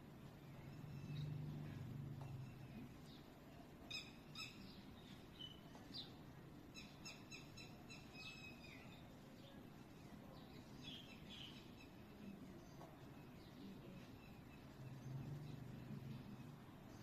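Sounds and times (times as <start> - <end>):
faint bird chirps: 0.3 - 17.0.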